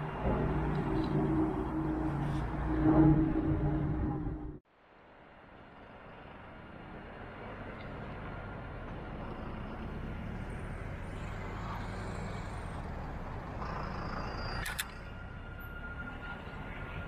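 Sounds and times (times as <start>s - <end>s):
tram rumble: 0.0s - 4.6s, 5.4s - 17.0s.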